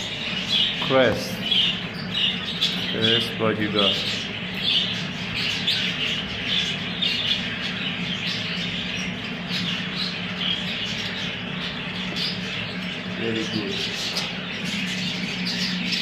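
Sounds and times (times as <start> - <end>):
budgerigars chattering and chirping: 0.0 - 16.0
steady low hum: 0.0 - 16.0.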